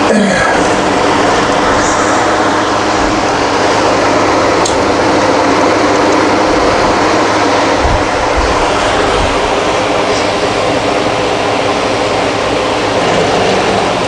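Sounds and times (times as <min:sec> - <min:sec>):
mechanical hum and rushing: 0:00.0 - 0:14.0.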